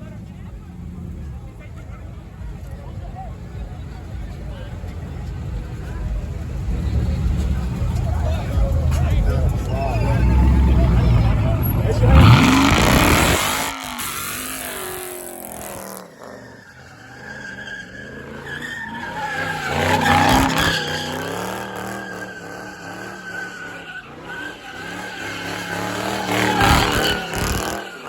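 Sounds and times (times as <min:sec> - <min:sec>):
car engine revving: 0:03.8 - 0:28.0
car tires squealing: 0:05.3 - 0:28.0.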